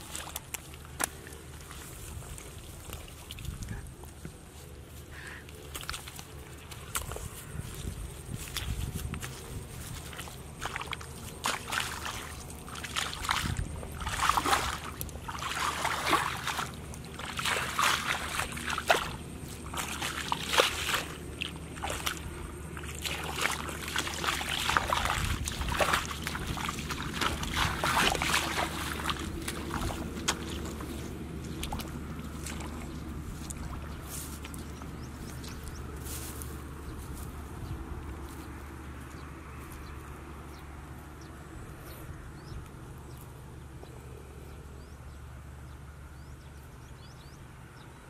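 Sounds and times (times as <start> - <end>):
feet sloshing through muddy water: 0.0 - 42.4.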